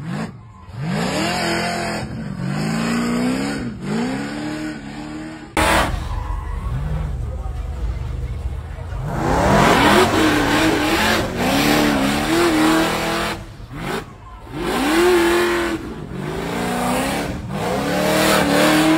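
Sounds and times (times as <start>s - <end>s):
car engine revving hard: 0.0s - 6.1s, 9.0s - 18.9s.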